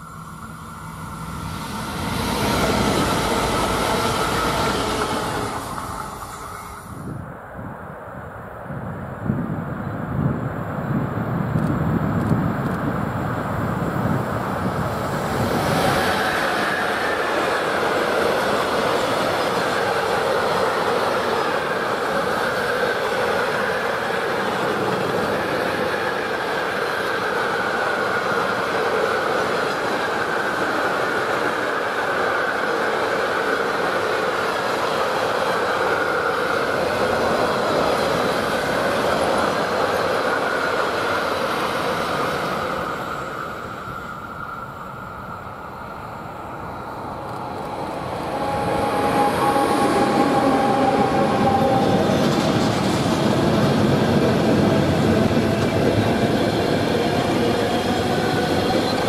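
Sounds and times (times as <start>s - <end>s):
train wheels rumbling on rails: 0.0s - 7.4s, 9.2s - 59.0s
electric locomotive steady tones: 0.0s - 59.0s.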